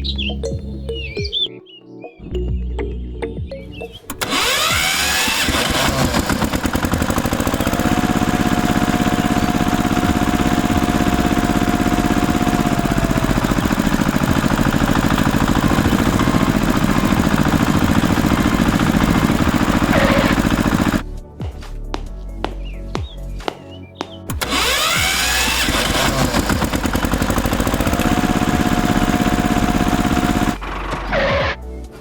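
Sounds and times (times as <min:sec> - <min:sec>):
small engine running: 0:04.1 - 0:21.0, 0:21.9 - 0:31.6.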